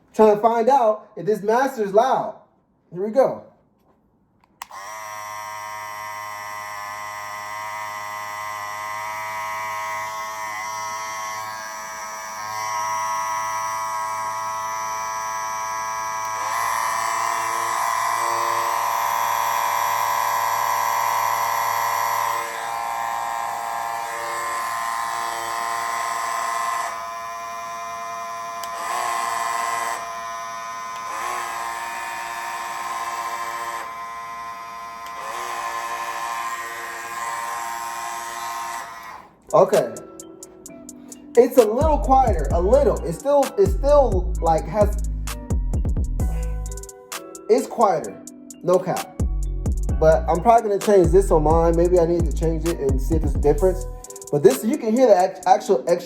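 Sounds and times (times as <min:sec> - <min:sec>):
hair clipper buzzing: 0:04.6 - 0:56.0.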